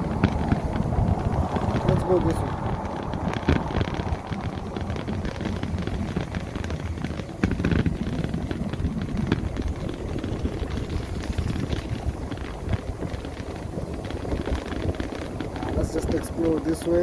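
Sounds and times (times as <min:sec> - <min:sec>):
road noise: 0:00.0 - 0:17.0
wind rumbling on microphone: 0:00.0 - 0:17.0.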